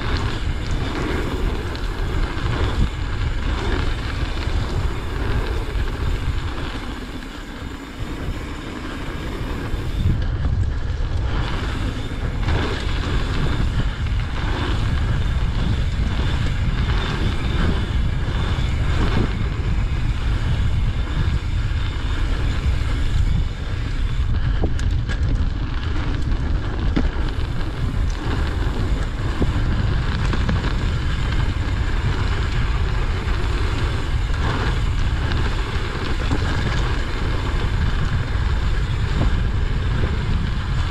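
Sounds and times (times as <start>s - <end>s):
bike clicks and rattles: 0.0s - 40.9s
bike tyres on dirt trail: 0.0s - 40.9s
wind buffeting microphone: 0.0s - 40.9s.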